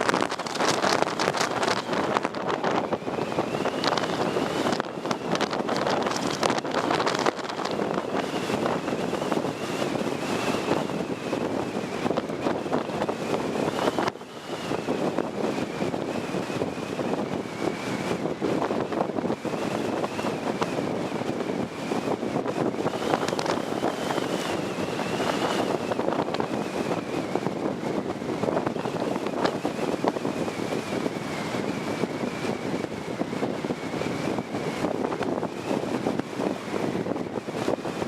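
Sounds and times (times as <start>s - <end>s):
truck roaring at high speed: 0.0s - 38.0s
wind buffeting microphone: 0.0s - 38.0s.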